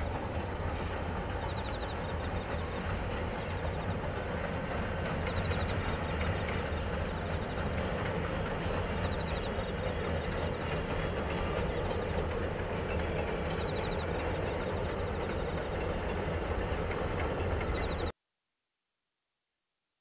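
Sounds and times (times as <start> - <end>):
rhythmic clicking of rails: 0.0 - 18.1
train wheels rumbling on rails: 0.0 - 18.1.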